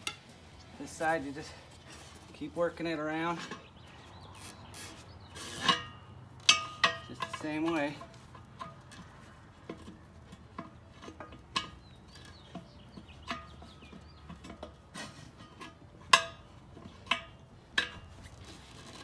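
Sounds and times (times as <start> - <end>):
tire irons clinking on wheel rim: 0.0 - 19.0.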